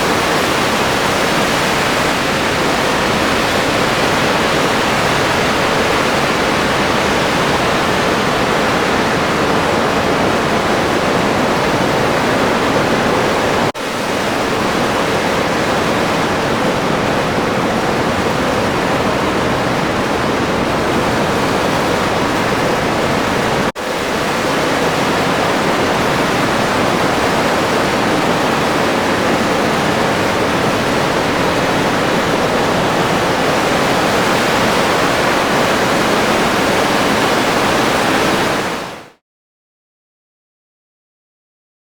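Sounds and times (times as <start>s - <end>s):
wind rushing in open cockpit: 0.0s - 39.2s.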